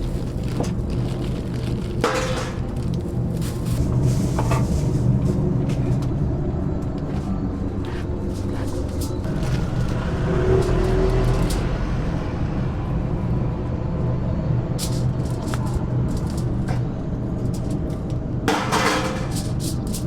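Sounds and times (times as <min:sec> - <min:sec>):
low machine hum: 0:00.0 - 0:19.6.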